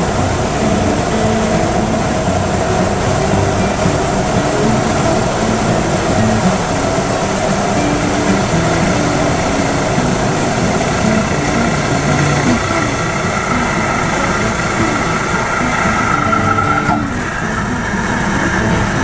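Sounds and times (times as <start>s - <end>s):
light aircraft engine and propeller: 0.0s - 19.0s
rush of air noise: 0.0s - 19.0s.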